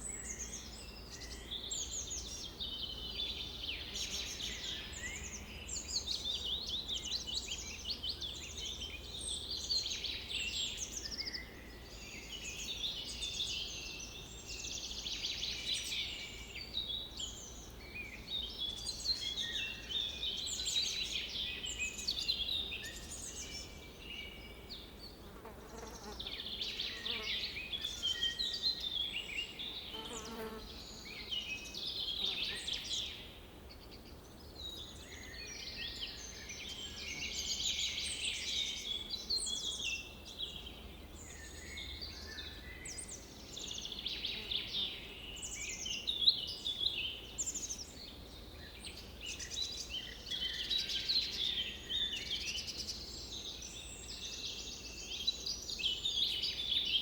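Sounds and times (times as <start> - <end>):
birds chirping in chorus: 0.0 - 57.0.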